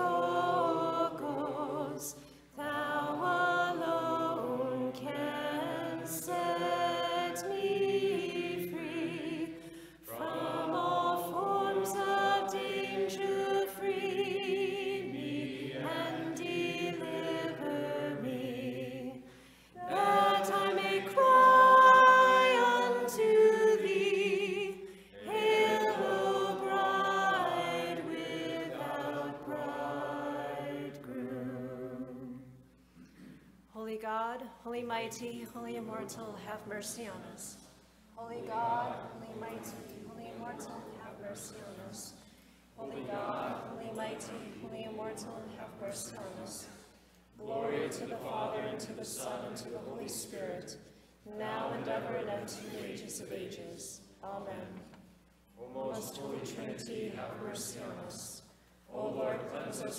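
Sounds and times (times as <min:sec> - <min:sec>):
voices singing liturgical chant: 0:00.0 - 0:32.7, 0:38.2 - 0:59.9.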